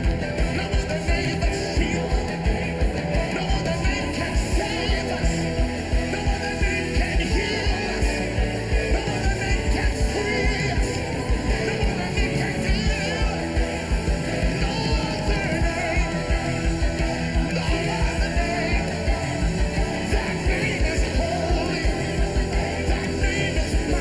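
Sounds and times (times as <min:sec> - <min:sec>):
fast steady drum beat: 0:00.0 - 0:24.0
voices singing: 0:00.0 - 0:24.0
worship band music: 0:00.0 - 0:24.0.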